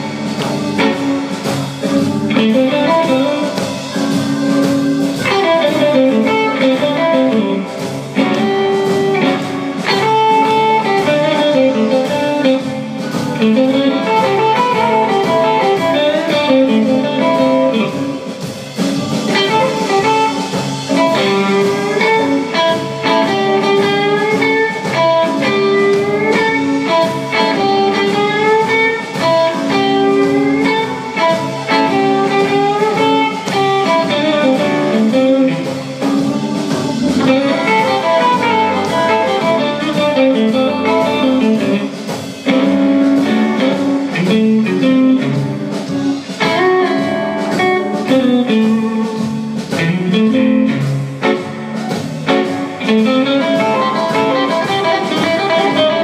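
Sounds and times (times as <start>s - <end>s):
bass guitar: 0.0s - 56.0s
drums: 0.0s - 56.0s
electric guitar lead lines: 0.0s - 56.0s.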